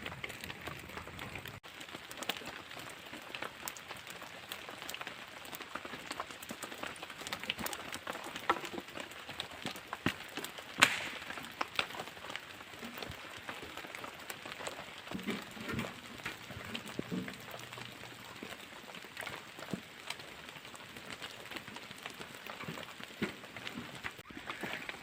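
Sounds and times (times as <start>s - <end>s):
rain hissing in forest: 0.0s - 25.0s
raindrop ticks: 0.0s - 25.0s.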